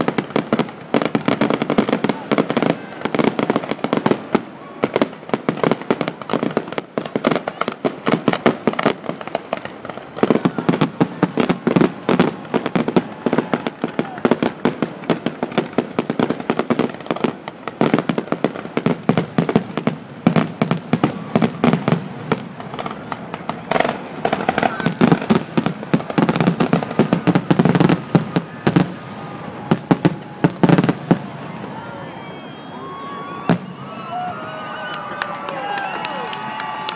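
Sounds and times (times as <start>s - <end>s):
fireworks exploding: 0.0s - 36.9s.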